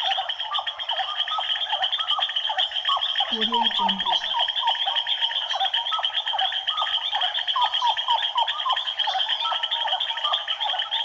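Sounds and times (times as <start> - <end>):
frog chorus trilling: 0.0 - 11.0.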